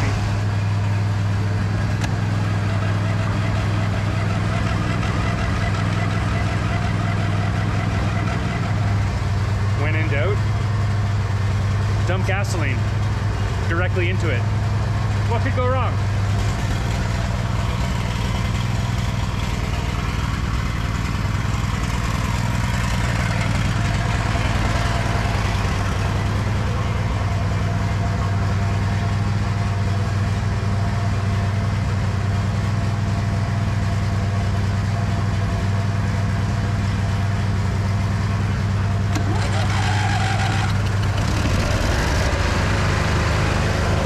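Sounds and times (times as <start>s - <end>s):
lawn mower engine idling: 0.0s - 44.0s.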